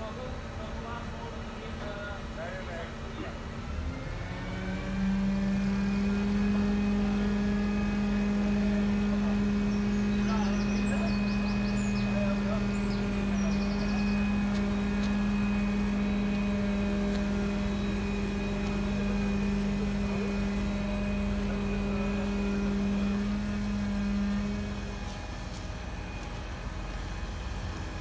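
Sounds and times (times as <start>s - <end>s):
crane hydraulics humming: 0.0s - 28.0s
low engine rumble: 0.0s - 28.0s.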